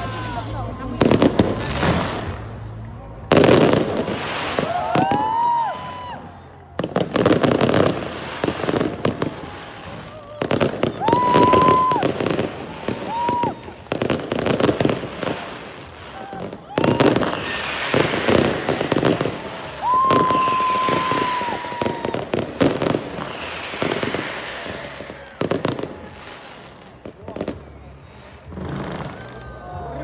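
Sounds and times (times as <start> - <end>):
fireworks bangs and crackling: 0.0 - 30.0
fireworks rising whistles: 3.3 - 26.8, 27.4 - 29.3.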